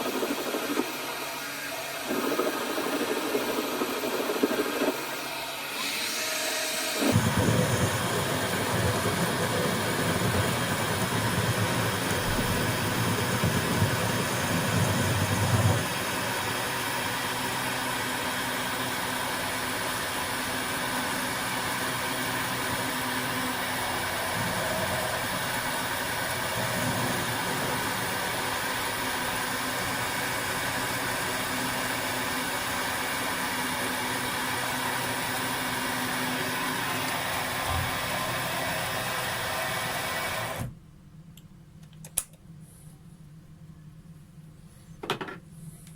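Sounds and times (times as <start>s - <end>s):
lathe motor hum: 0.0s - 40.6s.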